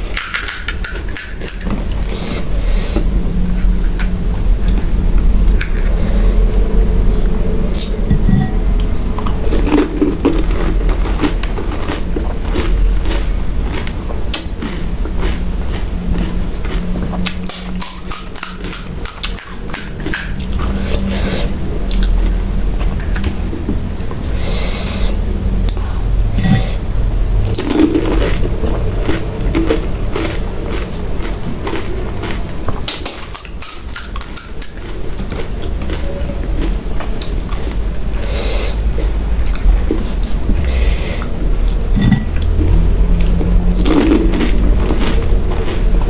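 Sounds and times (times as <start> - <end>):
crunching and chewing: 0.0 - 46.0
steady low hum: 0.0 - 46.0.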